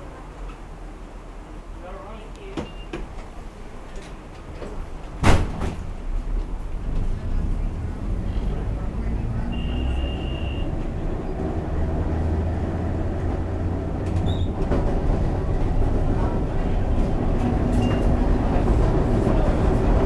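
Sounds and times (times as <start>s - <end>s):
streetcar rumbling on track: 0.0s - 20.0s.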